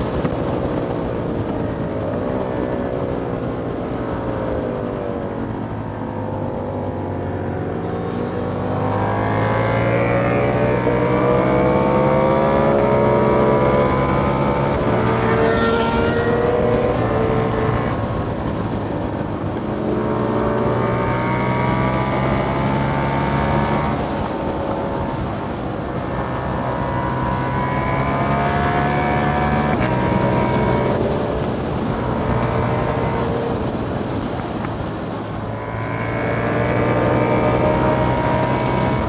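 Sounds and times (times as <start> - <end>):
motorcycle engine revving hard: 0.0 - 39.0.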